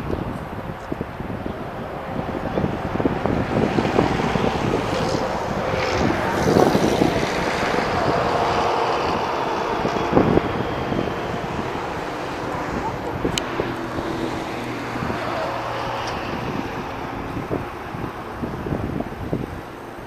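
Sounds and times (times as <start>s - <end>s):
highway traffic passing: 0.0s - 20.0s
wind buffeting microphone: 0.0s - 20.0s.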